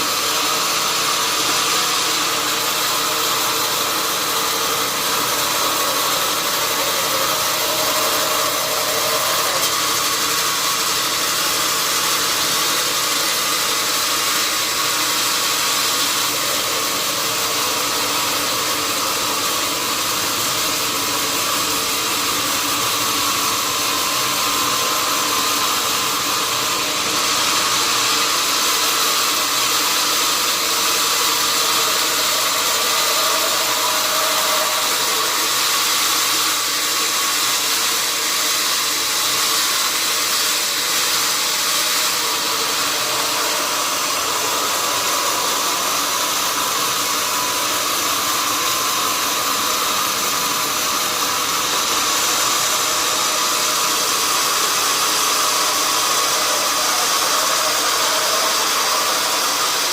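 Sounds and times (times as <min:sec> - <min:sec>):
constant machine whine: 0:00.0 - 0:59.9
sawmill machinery running: 0:00.0 - 0:59.9.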